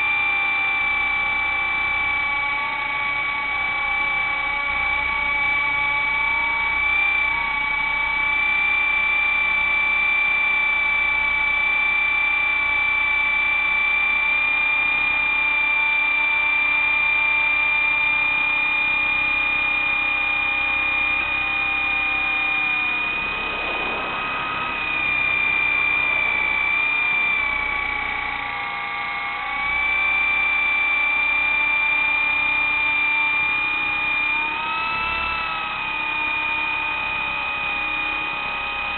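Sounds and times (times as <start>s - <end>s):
model helicopter whine: 0.0s - 38.9s.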